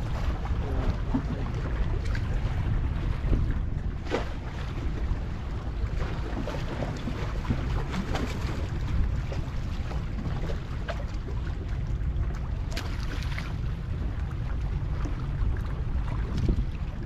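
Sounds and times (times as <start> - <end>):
sea water washing: 0.0 - 17.0
wind buffeting microphone: 0.0 - 17.0.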